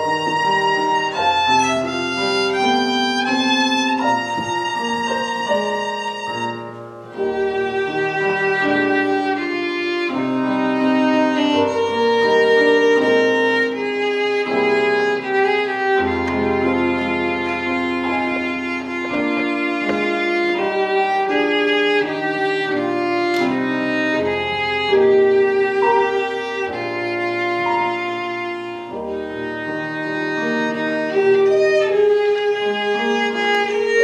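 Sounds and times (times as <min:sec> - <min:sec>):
keyboard accompaniment: 0:00.0 - 0:34.0
violin slow melody: 0:00.0 - 0:34.0.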